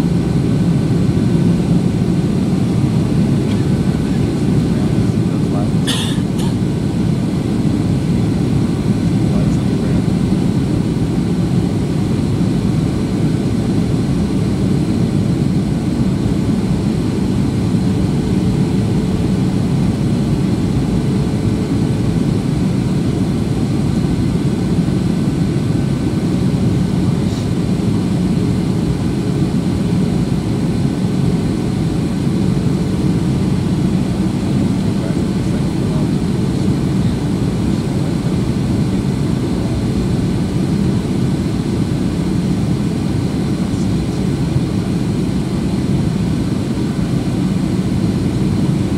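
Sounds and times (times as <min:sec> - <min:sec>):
air rushing along fuselage: 0:00.0 - 0:48.9
jet engine drone: 0:00.0 - 0:48.9.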